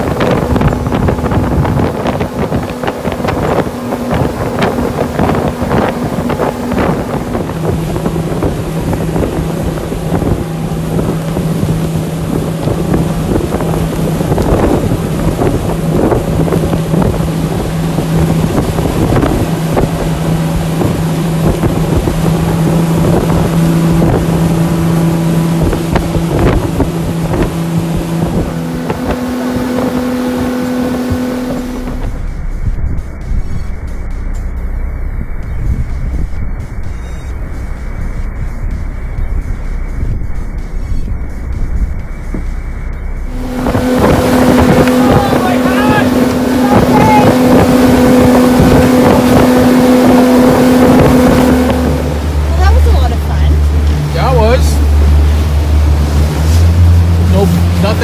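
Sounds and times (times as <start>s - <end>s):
hull knocking on waves: 0.0s - 32.2s, 43.4s - 58.0s
outboard motors running: 0.0s - 58.0s
wind buffeting microphone: 0.0s - 58.0s.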